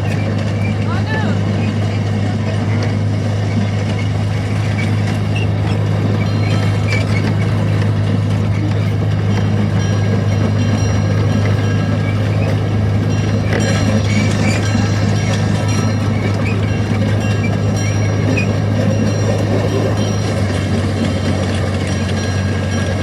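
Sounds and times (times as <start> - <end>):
amusement ride humming: 0.0 - 23.0.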